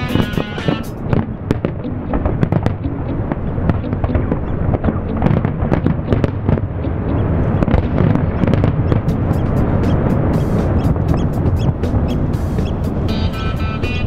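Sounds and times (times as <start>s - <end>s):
fireworks bangs and crackles: 0.0s - 13.1s.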